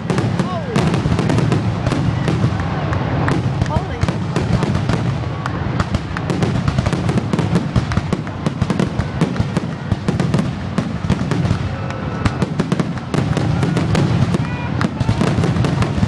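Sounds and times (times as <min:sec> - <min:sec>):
fireworks bursting and crackling: 0:00.0 - 0:16.0
whistles of rising fireworks: 0:00.0 - 0:16.0.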